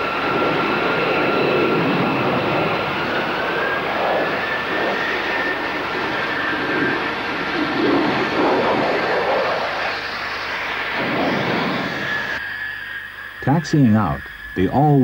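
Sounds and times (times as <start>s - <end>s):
jet engines whining and roaring: 0.0s - 15.0s.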